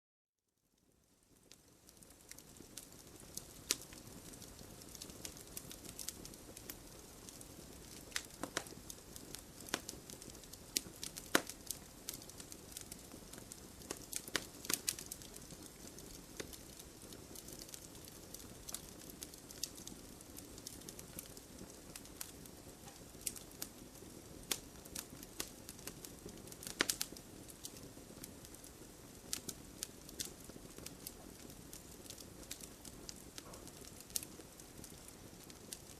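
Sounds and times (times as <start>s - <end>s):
wood fire crackling and popping: 0.8s - 35.9s.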